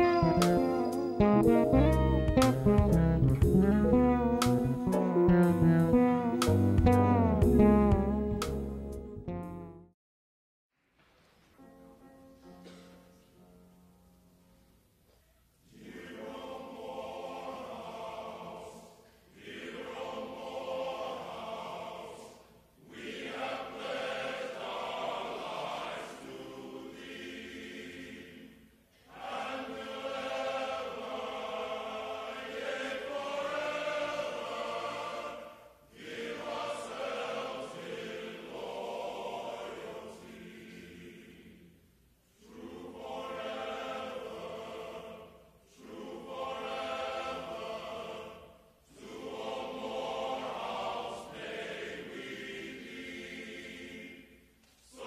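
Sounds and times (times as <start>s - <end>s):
choir singing: 0.0s - 8.1s, 15.6s - 55.0s.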